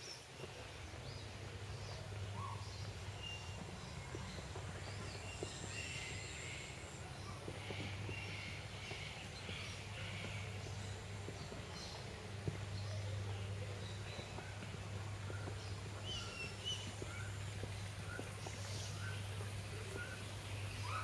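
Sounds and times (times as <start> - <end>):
low steady hum: 0.0 - 21.0
birds chirping and calling: 1.2 - 21.0.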